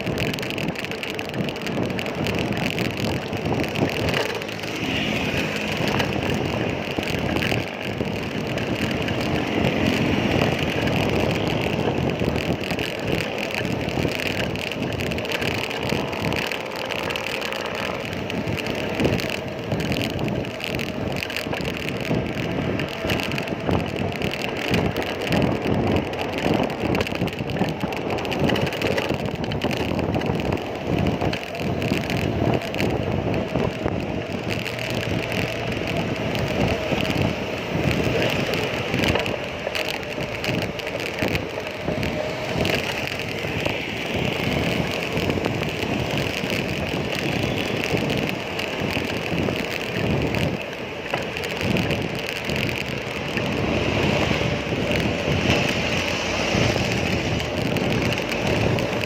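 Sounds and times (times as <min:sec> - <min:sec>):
road traffic: 0:00.0 - 0:59.0
wind buffeting microphone: 0:00.0 - 0:59.0.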